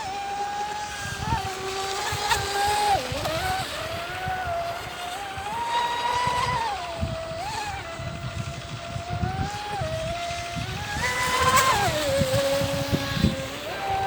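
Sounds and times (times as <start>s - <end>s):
hull rumbling on water: 0.0s - 14.0s
model boat motor whining: 0.0s - 14.0s.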